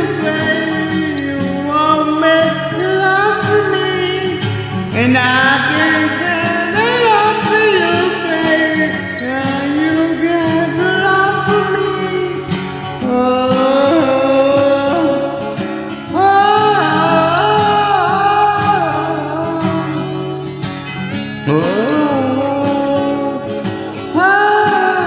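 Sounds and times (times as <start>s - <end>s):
person singing with vibrato: 0.0s - 20.7s, 21.4s - 25.0s
acoustic guitar backing track: 0.0s - 25.0s.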